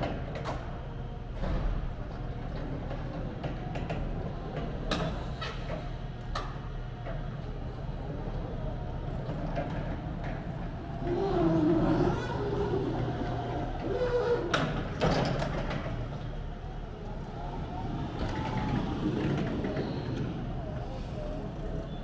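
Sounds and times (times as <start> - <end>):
reach truck motor and hydraulic hum: 0.0 - 22.0.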